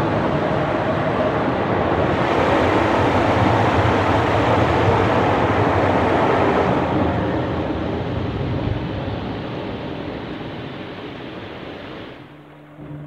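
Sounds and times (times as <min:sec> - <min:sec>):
car wash water spray and brushes: 0:00.0 - 0:12.4
car wash machinery: 0:00.0 - 0:13.0.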